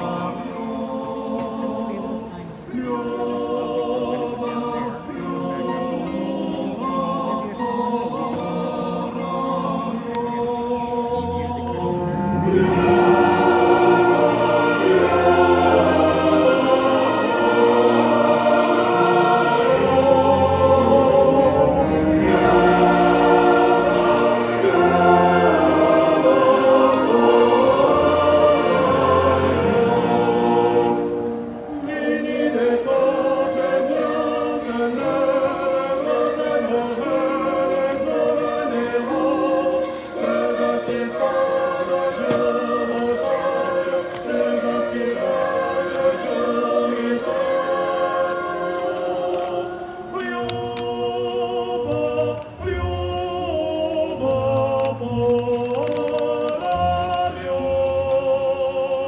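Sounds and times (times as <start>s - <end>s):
large choir singing: 0.0s - 59.0s.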